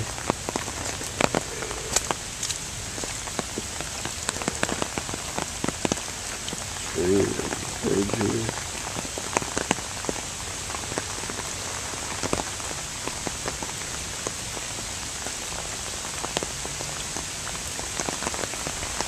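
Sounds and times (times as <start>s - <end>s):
raindrops tapping: 0.0s - 19.0s
steady rain falling: 0.0s - 19.0s.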